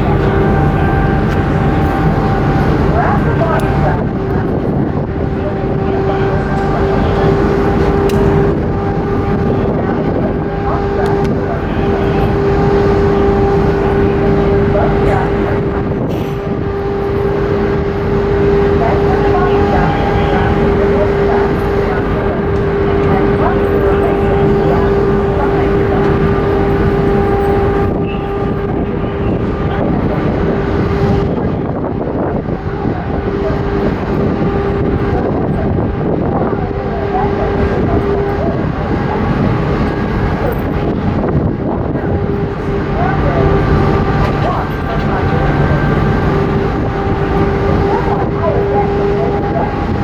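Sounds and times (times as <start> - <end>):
ship engines droning: 0.0 - 50.0.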